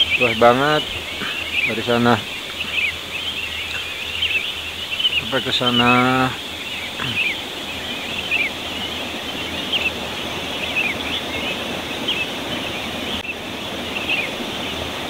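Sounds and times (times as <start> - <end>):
birds chirping: 0.0 - 15.0
steady rushing hiss: 0.0 - 15.0.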